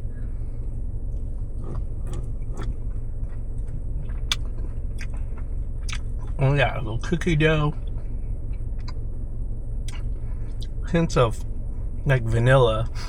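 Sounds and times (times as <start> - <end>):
car interior engine rumble: 0.0 - 13.0.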